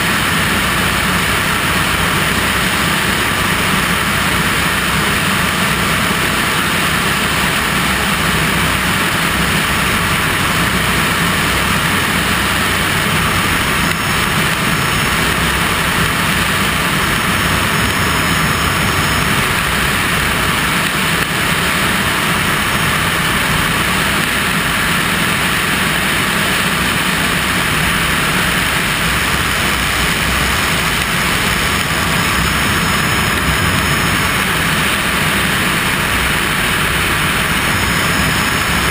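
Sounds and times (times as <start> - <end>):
turboprop engine droning: 0.0 - 38.9.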